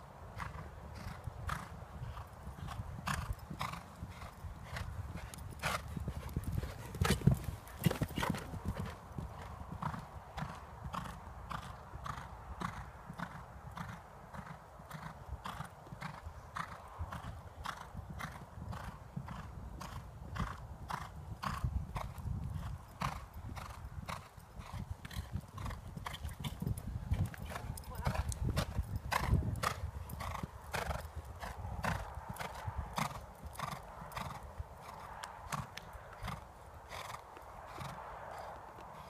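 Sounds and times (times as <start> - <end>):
horse hoofbeats on sand: 0.4 - 39.0.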